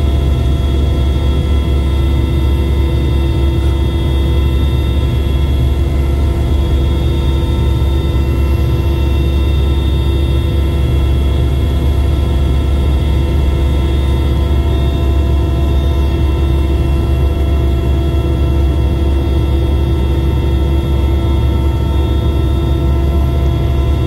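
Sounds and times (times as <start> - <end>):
aircraft engine drone: 0.0 - 24.0
steady whining tones: 0.0 - 24.0.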